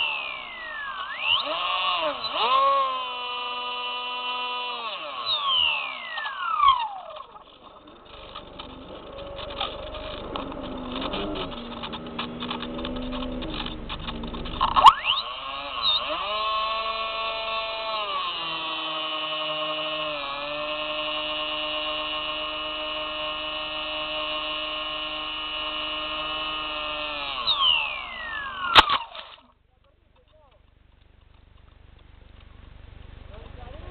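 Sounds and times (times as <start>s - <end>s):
electric motor and propeller whine: 0.0s - 29.6s.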